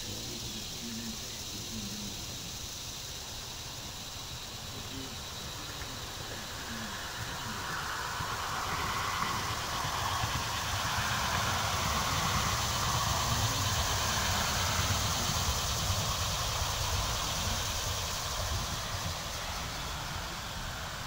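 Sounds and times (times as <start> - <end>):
steady mechanical drone: 0.0 - 21.0.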